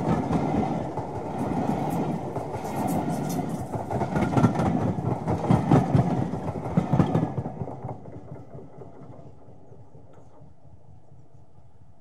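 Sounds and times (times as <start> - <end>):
train wheels clicking over rail joints: 0.0 - 10.6.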